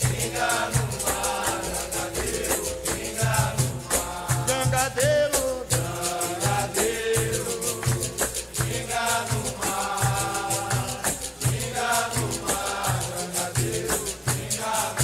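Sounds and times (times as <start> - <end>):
shaker rattle: 0.0 - 15.0
tambourine: 0.0 - 15.0
voices singing held notes: 0.0 - 15.0.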